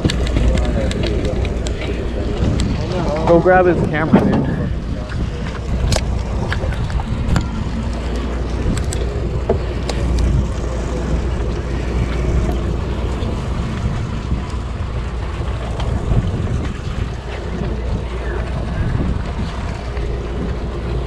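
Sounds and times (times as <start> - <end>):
boat engine low rumble: 0.0 - 21.0
wind buffeting microphone: 0.0 - 21.0.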